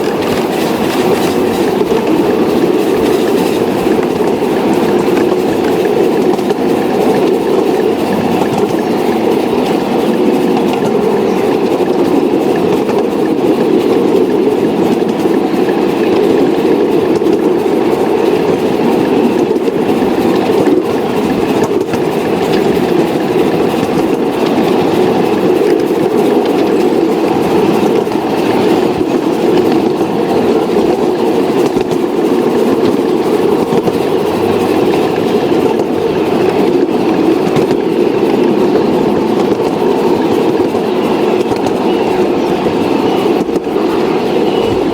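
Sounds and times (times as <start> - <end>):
model train rumbling on track: 0.0 - 44.9.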